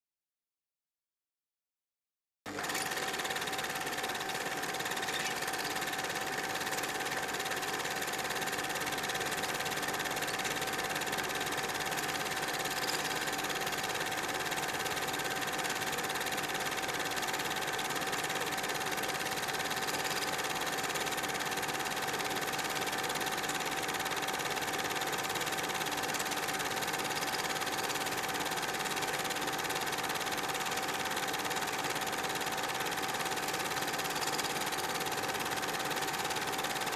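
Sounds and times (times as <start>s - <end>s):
film projector whirring: 2.5s - 36.9s.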